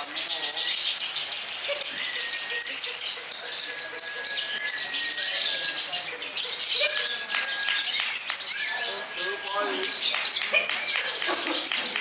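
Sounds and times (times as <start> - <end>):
lovebirds chattering trills: 0.0 - 12.0.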